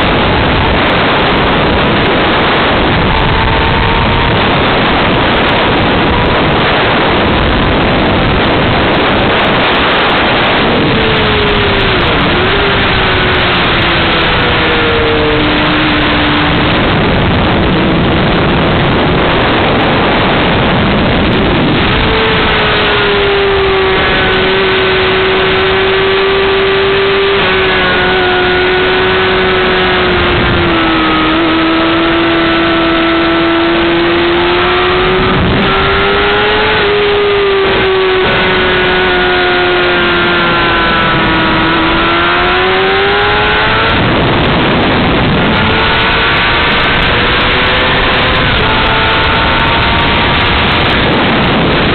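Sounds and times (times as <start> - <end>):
heavy wind noise on microphone: 0.0 - 51.9
motorcycle engine at high revs: 0.0 - 51.9.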